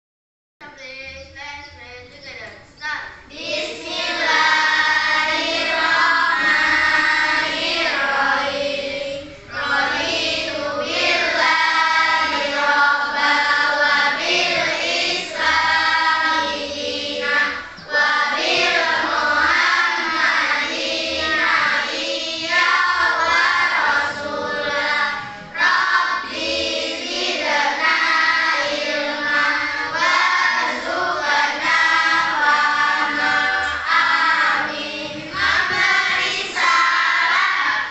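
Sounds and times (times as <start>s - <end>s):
choir singing sustained notes: 3.4s - 37.9s.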